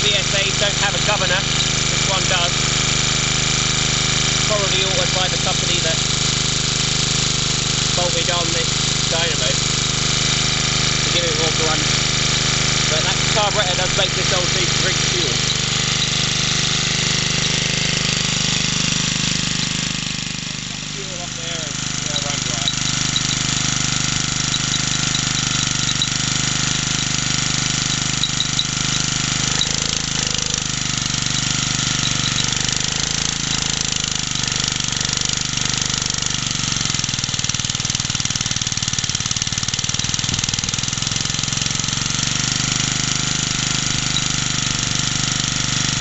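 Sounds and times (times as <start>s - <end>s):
small stationary engine running: 0.0s - 46.0s.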